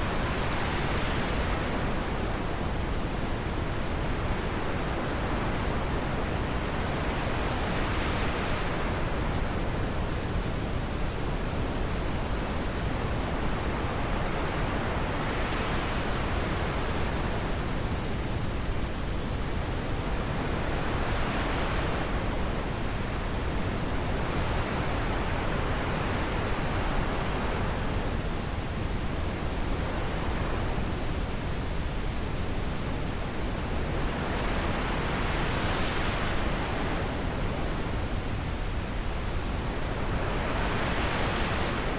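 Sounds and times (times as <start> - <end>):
wind blowing in gusts: 0.0 - 41.9.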